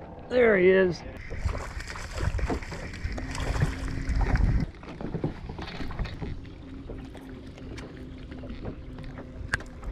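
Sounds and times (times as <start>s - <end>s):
wind rumbling on microphone: 1.2s - 9.9s.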